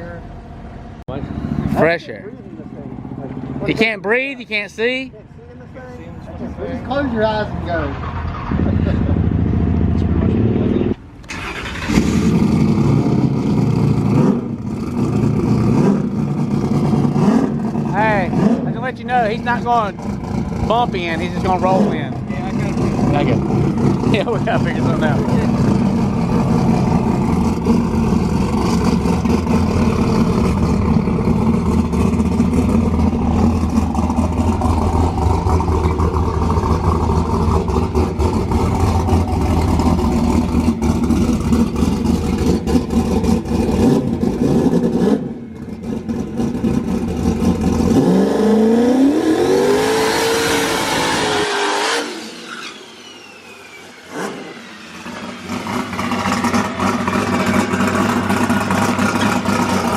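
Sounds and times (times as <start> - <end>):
race car engine revving: 6.8 - 59.9.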